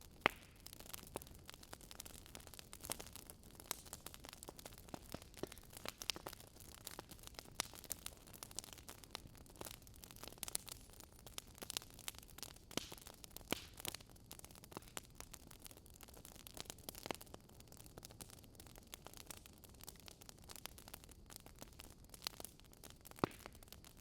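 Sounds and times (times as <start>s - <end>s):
wood crackling and popping: 0.0s - 24.0s.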